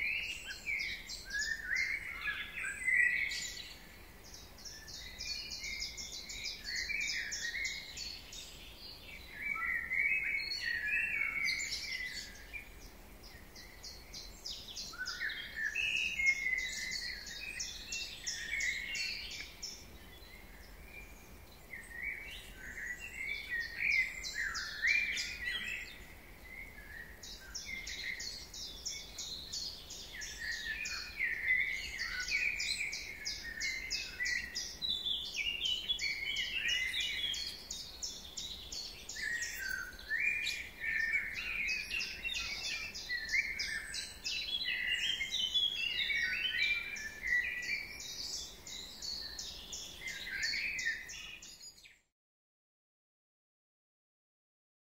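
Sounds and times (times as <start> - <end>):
songbirds singing: 0.0 - 52.1.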